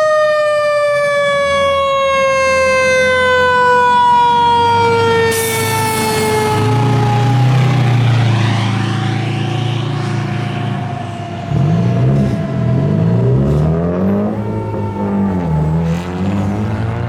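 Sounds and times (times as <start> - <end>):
fire truck engine revving: 0.0 - 17.0
siren sliding down in pitch: 0.0 - 17.0.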